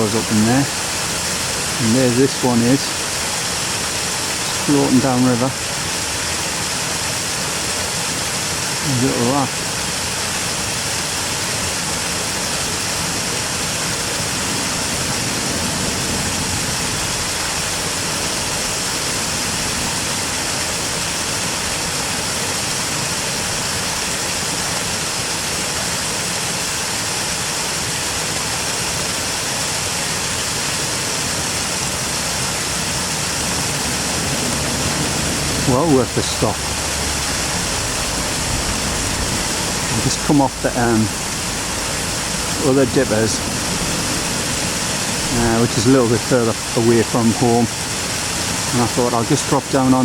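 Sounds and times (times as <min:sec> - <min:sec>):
river water rushing: 0:00.0 - 0:50.0.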